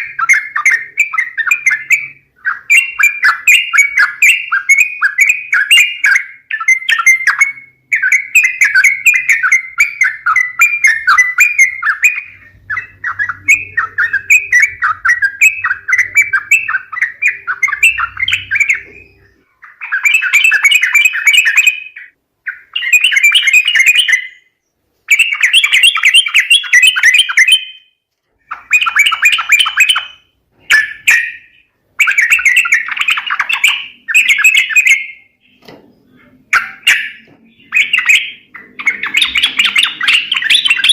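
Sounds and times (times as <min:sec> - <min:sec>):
bulbuls chattering: 0:00.0 - 0:24.1, 0:28.4 - 0:40.9.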